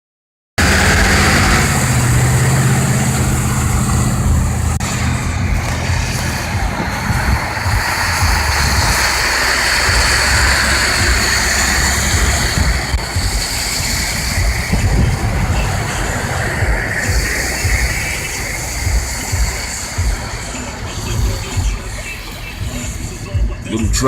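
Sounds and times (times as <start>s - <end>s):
car engine hum: 0.6s - 24.0s
road noise: 0.6s - 24.0s.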